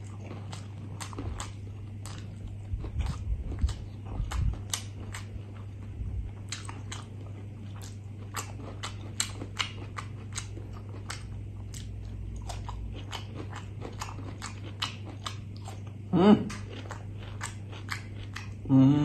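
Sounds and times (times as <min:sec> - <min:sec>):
wet chewing and lip-smacking: 0:00.0 - 0:18.7
steady low hum: 0:00.0 - 0:19.0.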